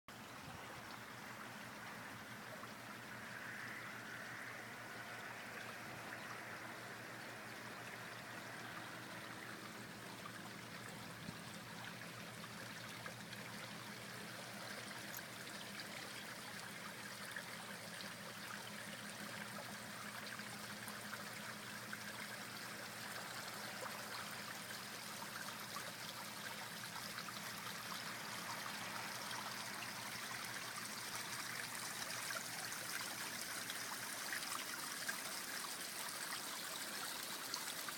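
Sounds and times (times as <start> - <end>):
water running and trickling: 0.2 - 37.9.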